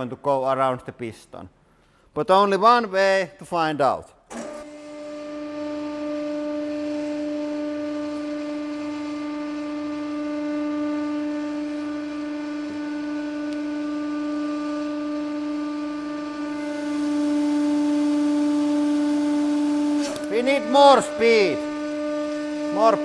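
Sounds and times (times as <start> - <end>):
hydraulic pump whining: 4.3 - 23.0.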